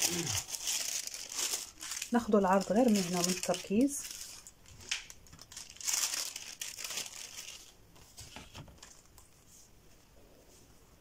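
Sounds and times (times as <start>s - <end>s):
thin paper rustling and crinkling: 0.0s - 9.4s.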